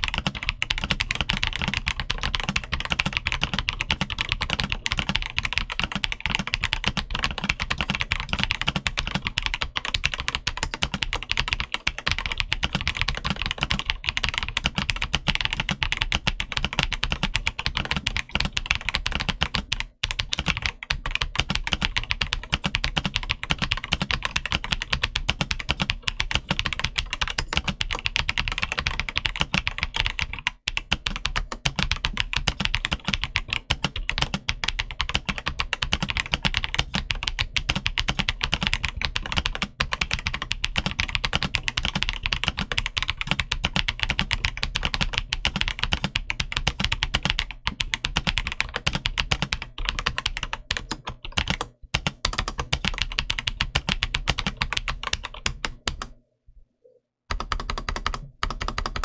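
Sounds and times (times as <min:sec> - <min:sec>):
fast mechanical keyboard typing: 0:00.0 - 0:56.2, 0:57.3 - 0:59.0.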